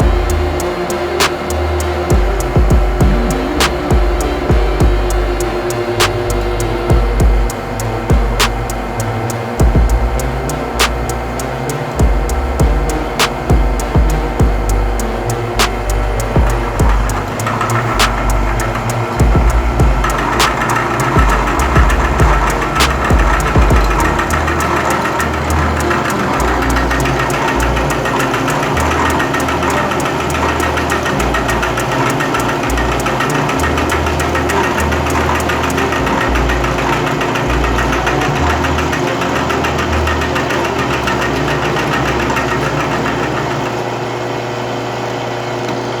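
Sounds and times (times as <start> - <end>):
cutter chattering against steel: 0.0 - 43.8
milling machine spindle motor: 0.0 - 46.0.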